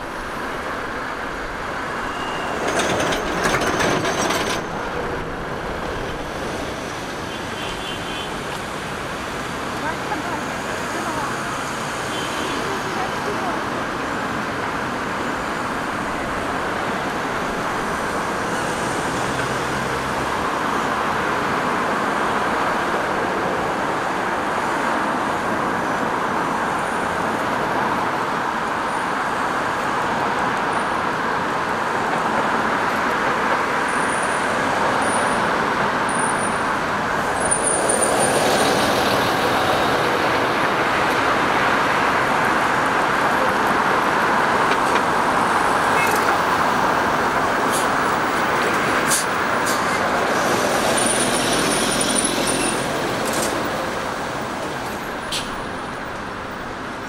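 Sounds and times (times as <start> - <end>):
cars and buses passing: 0.0 - 57.0.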